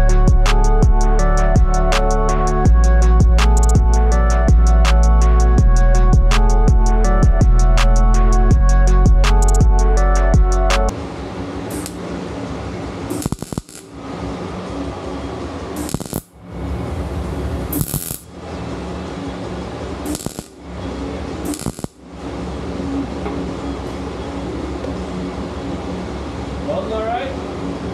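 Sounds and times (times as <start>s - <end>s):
steady hum: 0.0s - 27.9s.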